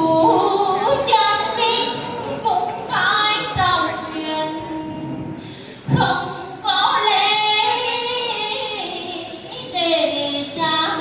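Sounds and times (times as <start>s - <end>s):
woman singing in a high voice: 0.0s - 5.1s, 5.9s - 11.0s.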